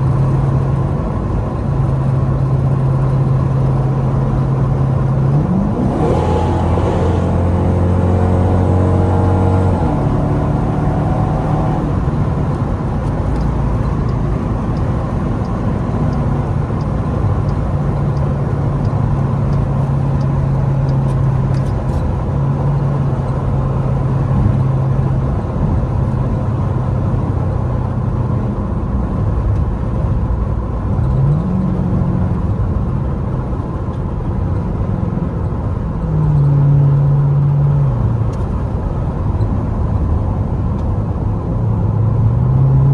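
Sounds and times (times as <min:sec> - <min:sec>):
road noise: 0:00.0 - 0:42.9.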